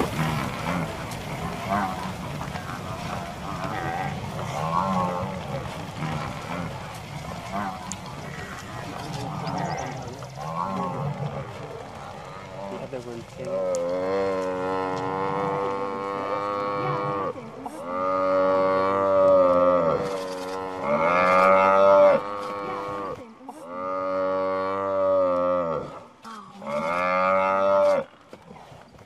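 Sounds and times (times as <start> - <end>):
buffalo bellowing: 0.0 - 28.1.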